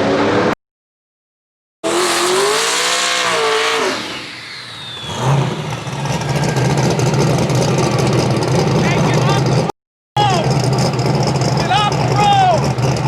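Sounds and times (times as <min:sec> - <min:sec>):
truck engine revving: 0:01.8 - 0:13.0.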